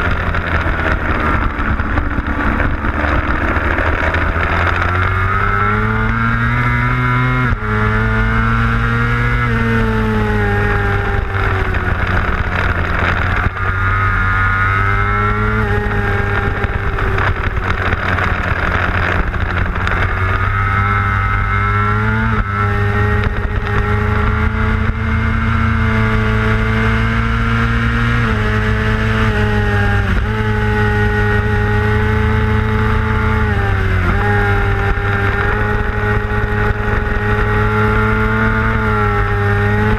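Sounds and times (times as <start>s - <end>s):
racing motorcycle engine at high revs: 0.0s - 39.9s.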